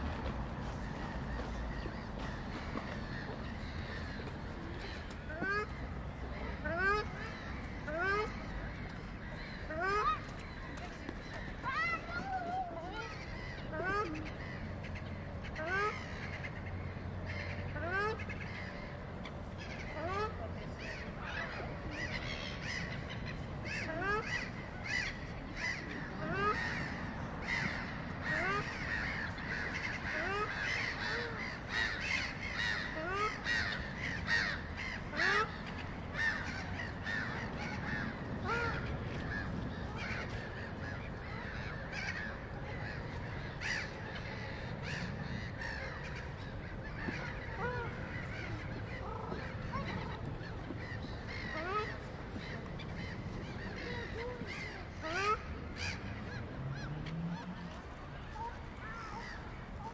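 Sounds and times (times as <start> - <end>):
gulls calling: 0.0 - 59.9.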